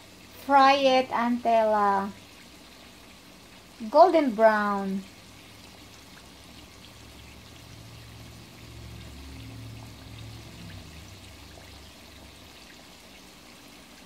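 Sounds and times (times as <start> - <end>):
oil sizzling with crackles: 0.0 - 14.0.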